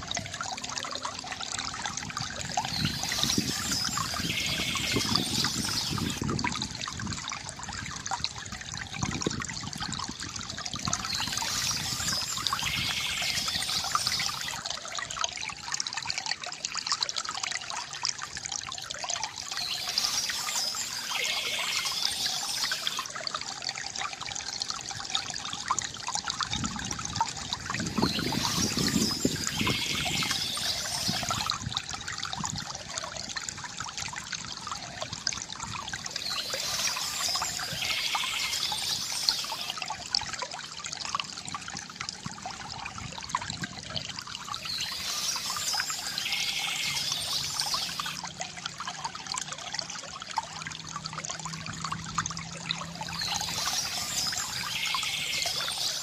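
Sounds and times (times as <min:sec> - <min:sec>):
water trickling from fountain spout: 0:00.0 - 0:56.0.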